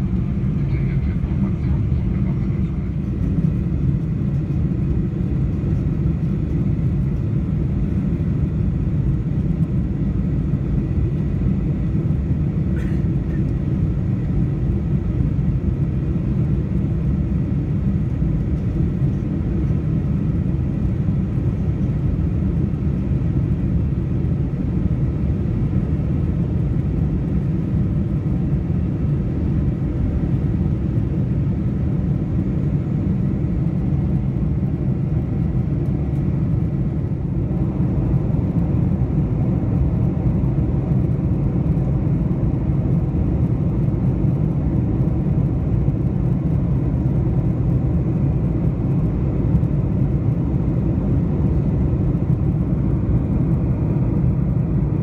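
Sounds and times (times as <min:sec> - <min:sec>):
airplane engines droning: 0:00.0 - 0:55.0.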